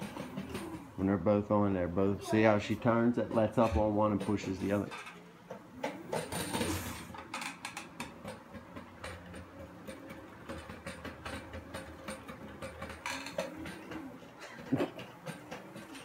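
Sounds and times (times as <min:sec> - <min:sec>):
kart wheels clicking and rattling: 0:00.0 - 0:16.0.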